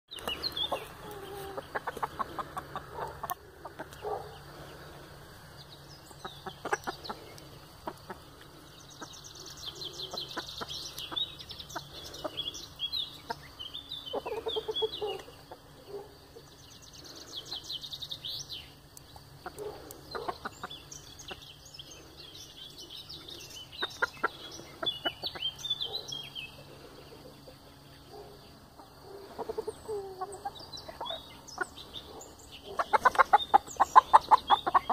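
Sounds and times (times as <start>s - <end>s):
chickens clucking: 0.1s - 34.9s
high chirping calls: 0.1s - 34.9s.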